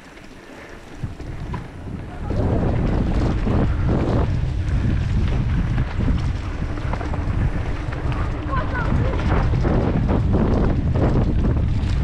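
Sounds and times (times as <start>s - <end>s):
wind buffeting microphone: 0.9s - 12.0s.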